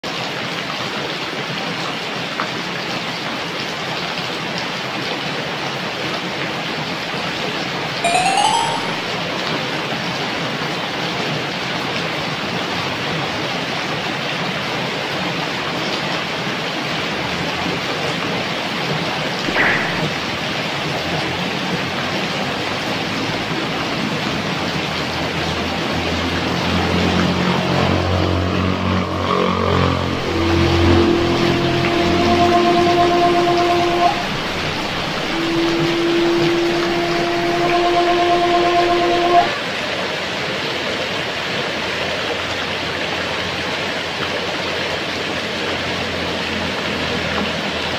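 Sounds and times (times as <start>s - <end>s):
steady rain falling: 0.0s - 8.0s, 9.3s - 28.9s, 30.0s - 47.9s.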